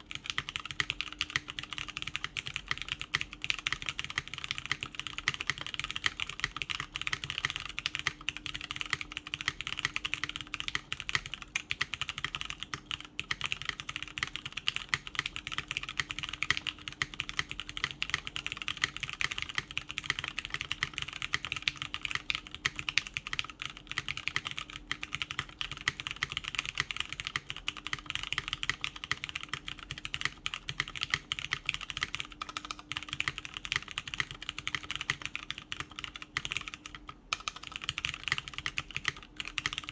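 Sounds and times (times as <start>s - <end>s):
mechanical keyboard keystroke clacks: 0.0s - 39.9s.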